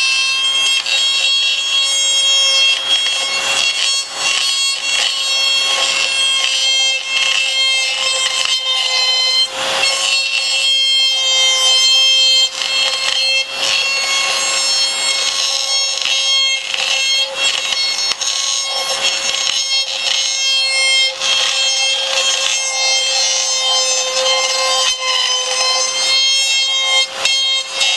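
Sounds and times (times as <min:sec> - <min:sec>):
router bit rasping: 0:00.0 - 0:27.9
router whining: 0:00.0 - 0:27.9.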